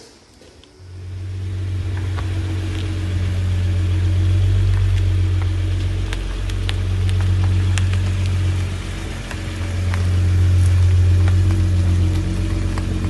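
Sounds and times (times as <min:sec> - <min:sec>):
car engine idling: 0:00.7 - 0:13.0.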